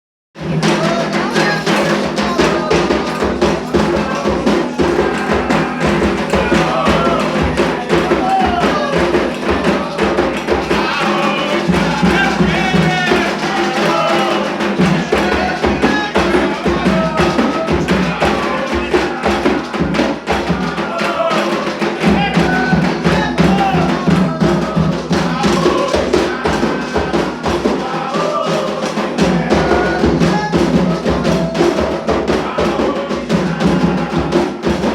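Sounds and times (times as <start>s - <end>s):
group of voices singing: 0.4s - 34.9s
hand drums beating: 0.4s - 34.9s.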